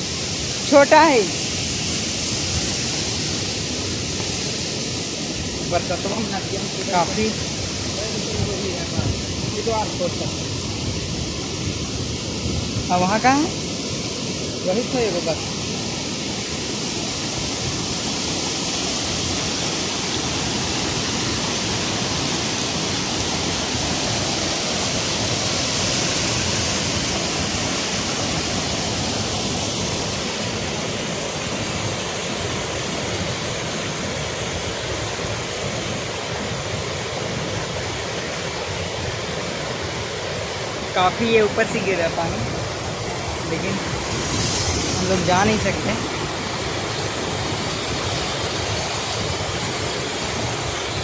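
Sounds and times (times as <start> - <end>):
river rushing over rapids: 0.0 - 51.0.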